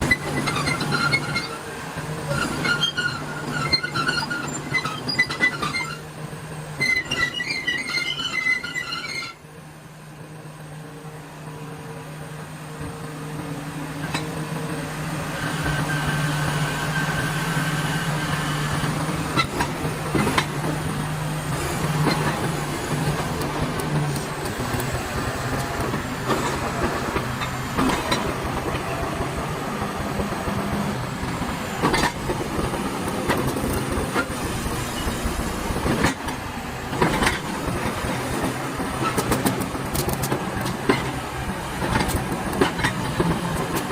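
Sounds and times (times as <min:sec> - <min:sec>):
steel tracks clanking: 0:00.0 - 0:09.4, 0:12.7 - 0:43.9
bulldozer diesel engine hum: 0:00.0 - 0:43.9.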